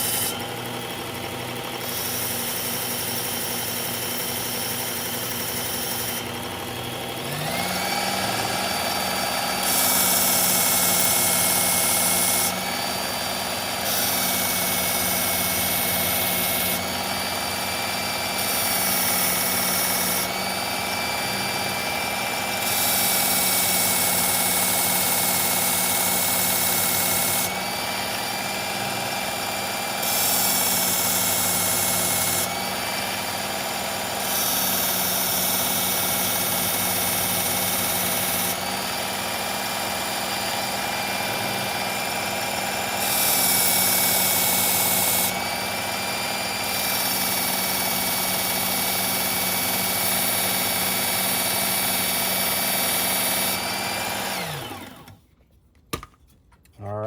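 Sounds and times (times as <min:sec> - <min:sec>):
blade grinding on belt: 0:00.0 - 0:55.2
knife sharpener motor whine: 0:00.0 - 0:55.2.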